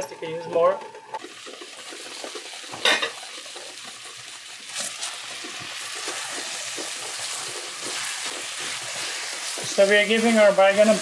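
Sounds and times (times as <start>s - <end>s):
vegetables sizzling in pot: 0.0s - 11.0s
spatula stirring and scraping: 1.2s - 11.0s.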